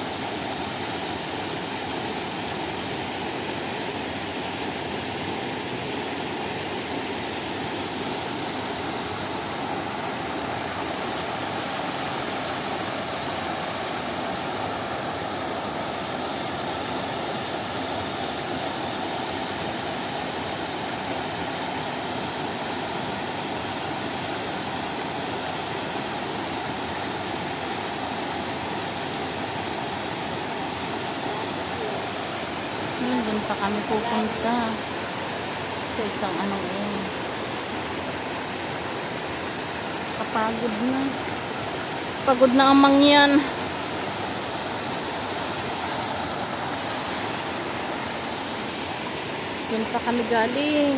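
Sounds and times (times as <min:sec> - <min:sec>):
stream rushing over boulders: 0:00.0 - 0:50.9.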